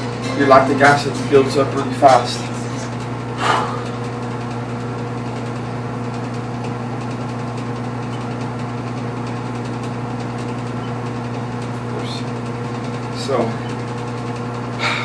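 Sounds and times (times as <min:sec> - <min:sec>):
low electrical mains hum: 0:00.0 - 0:15.0.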